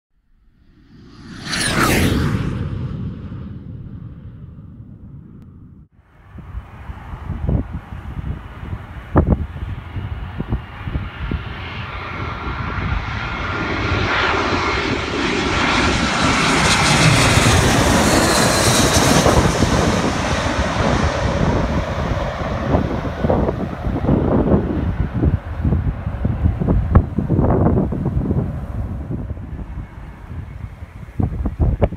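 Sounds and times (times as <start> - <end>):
jet airliner passing overhead: 0.3 - 31.9
wind buffeting microphone: 1.7 - 31.9.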